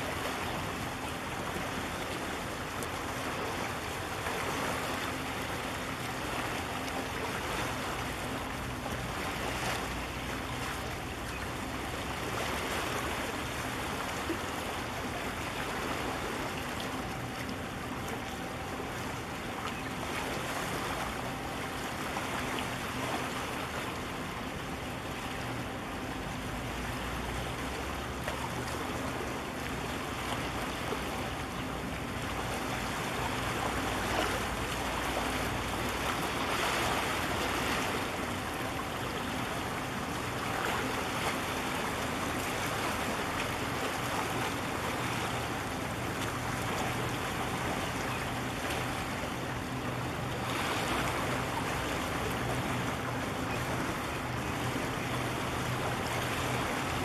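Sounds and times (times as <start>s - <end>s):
harbour water: 0.0s - 57.0s
ship low hum: 0.0s - 57.0s
wind: 0.0s - 57.0s.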